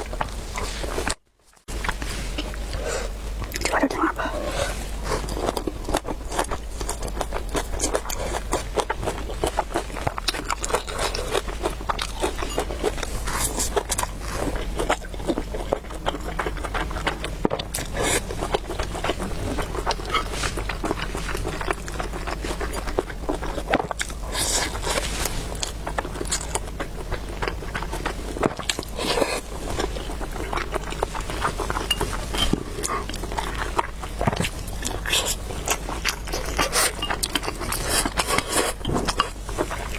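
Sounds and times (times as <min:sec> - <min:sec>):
person chewing noodles: 0:04.3 - 0:39.9.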